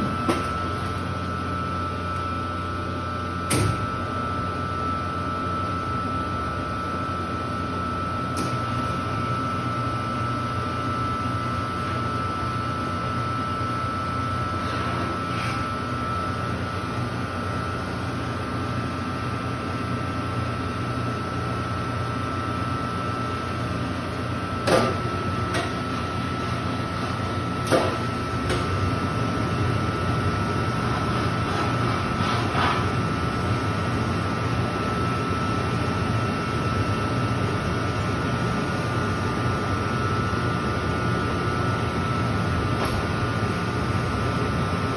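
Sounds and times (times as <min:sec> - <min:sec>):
machine humming and whining: 0:00.0 - 0:44.9.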